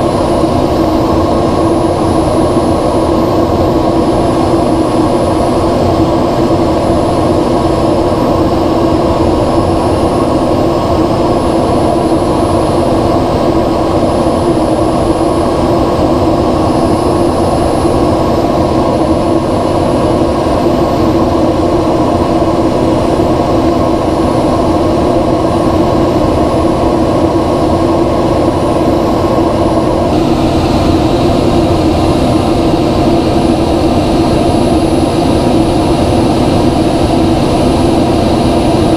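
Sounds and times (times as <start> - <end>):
constant low hum: 0.0 - 38.9
jet engine cockpit drone: 0.0 - 38.9.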